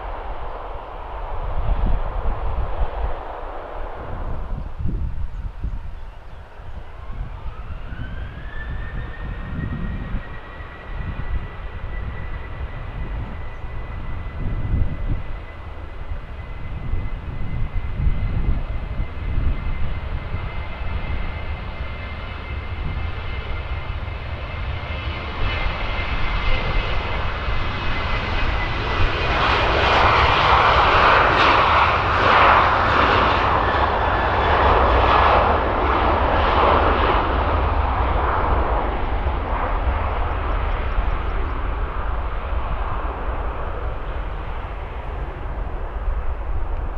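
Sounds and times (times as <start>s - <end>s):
broad jet noise: 0.0s - 46.9s
jet engines spooling up: 6.6s - 46.9s.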